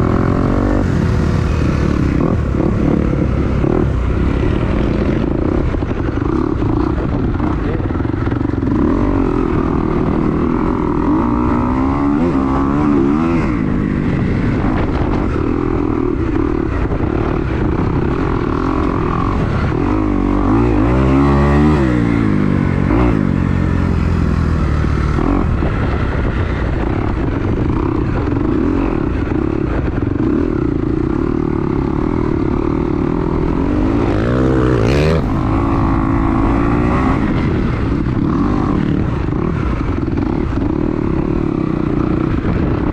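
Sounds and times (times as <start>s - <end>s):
motocross bike engine revving: 0.0s - 25.8s, 30.2s - 42.9s
wind buffeting microphone: 0.0s - 42.9s.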